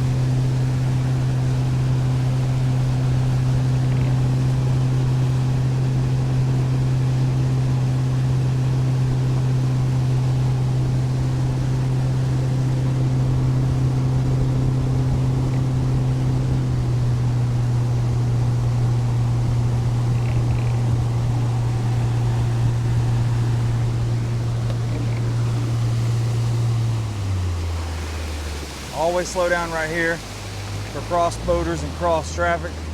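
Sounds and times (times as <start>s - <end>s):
outboard motor running: 0.0s - 32.9s.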